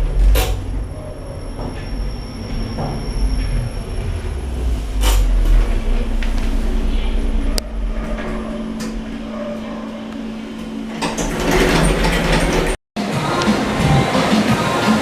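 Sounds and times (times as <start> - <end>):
automatic doors sliding open: 0.0 - 12.8
lift humming and rumbling: 0.0 - 14.8.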